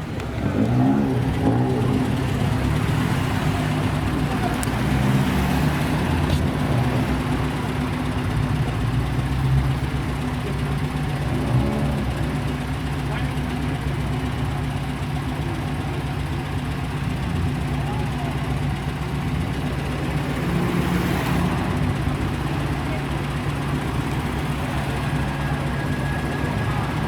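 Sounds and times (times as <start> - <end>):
car engine running loudly: 0.0 - 27.0.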